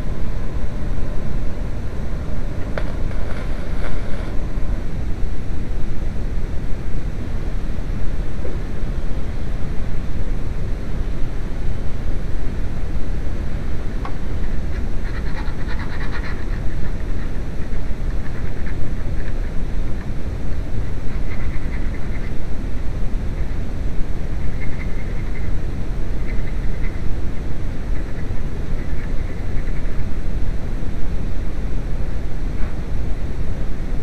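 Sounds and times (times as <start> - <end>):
low rumbling noise: 0.0 - 34.0.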